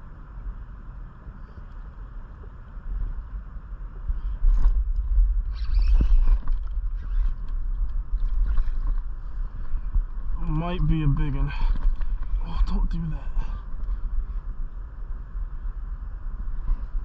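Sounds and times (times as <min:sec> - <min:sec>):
wind buffeting microphone: 0:02.7 - 0:17.0.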